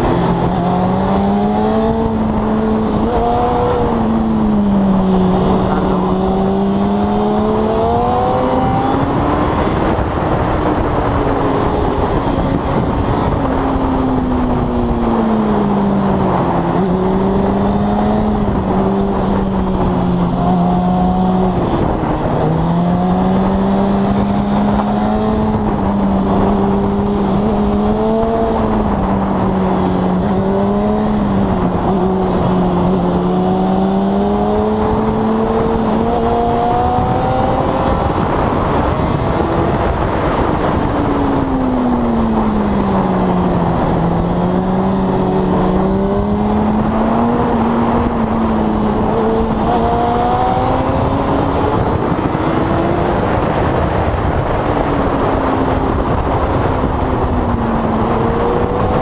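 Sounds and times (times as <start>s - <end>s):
motorcycle engine revving: 0.0s - 59.0s
steady rushing noise: 0.0s - 59.0s.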